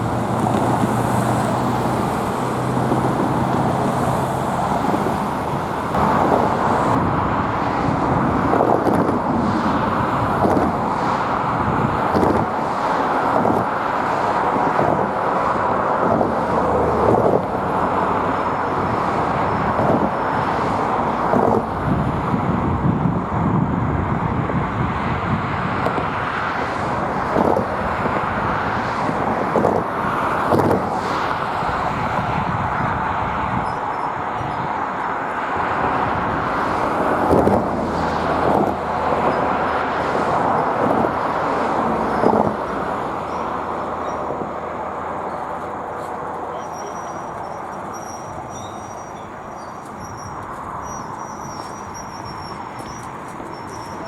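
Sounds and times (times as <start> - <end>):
train rolling rumble: 0.0 - 54.0.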